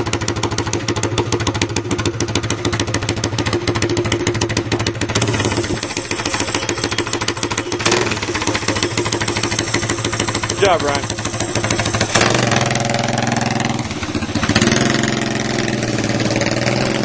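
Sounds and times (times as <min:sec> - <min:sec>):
kart engine idling: 0:00.0 - 0:17.0.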